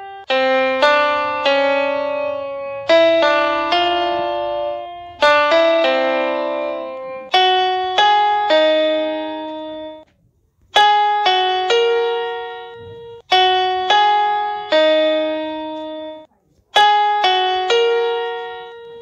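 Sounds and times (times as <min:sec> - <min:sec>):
keyboard melody: 0:00.0 - 0:10.1, 0:10.7 - 0:19.0.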